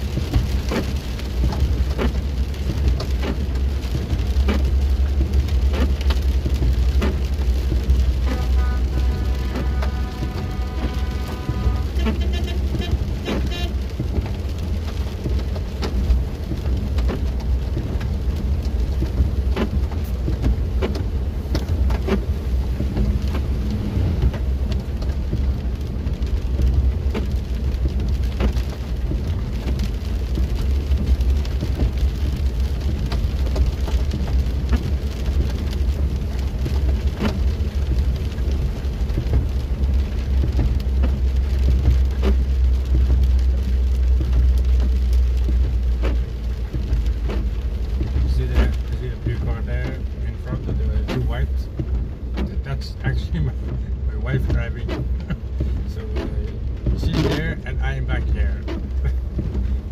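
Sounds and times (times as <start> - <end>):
car driving on wet road: 0.0 - 59.9
rain pattering on windscreen: 0.0 - 59.9
raindrops ticking on glass: 0.0 - 59.9.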